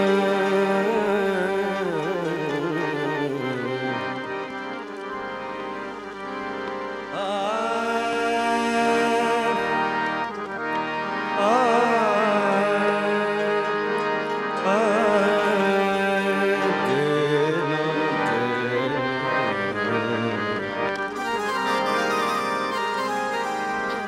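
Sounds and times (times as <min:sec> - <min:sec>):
harmonium chords: 0:00.0 - 0:24.0.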